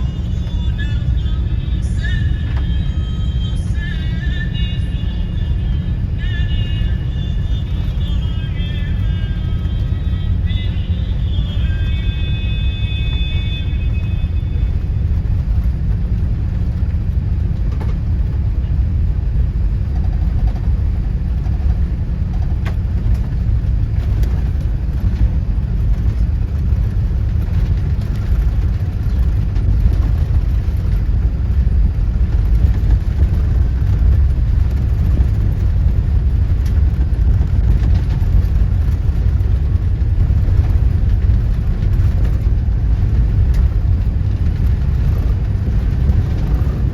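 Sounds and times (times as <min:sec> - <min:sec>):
jet engines rumbling: 0:00.0 - 0:46.9.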